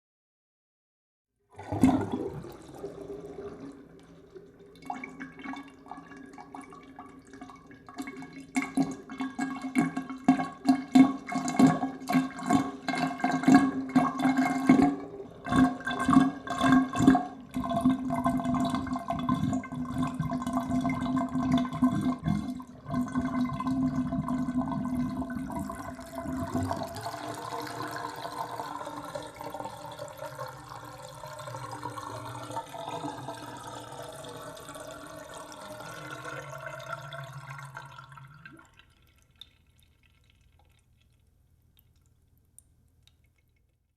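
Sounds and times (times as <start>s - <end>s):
bathtub water gurgling down drain: 1.4s - 43.8s.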